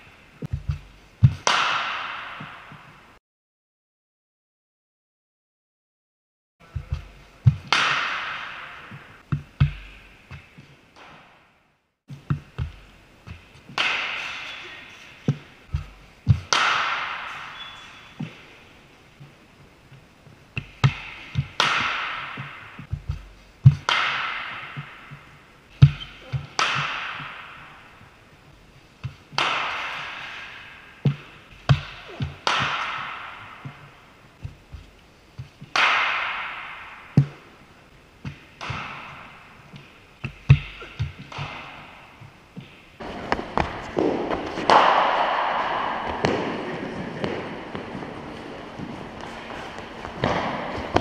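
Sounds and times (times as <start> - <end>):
balls thudding on floor and nets: 0.4 - 3.0, 6.6 - 51.0
cricket bats striking balls: 0.5 - 3.0, 6.8 - 11.5, 12.2 - 19.4, 20.5 - 28.2, 29.0 - 51.0.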